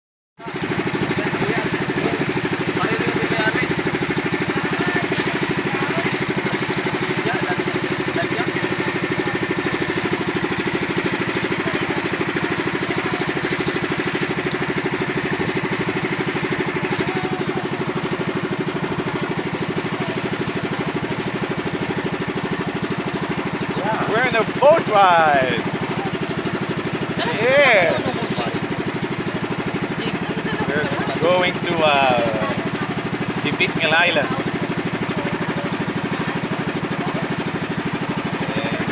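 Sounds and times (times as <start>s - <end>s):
boat engine chugging: 0.4s - 38.9s.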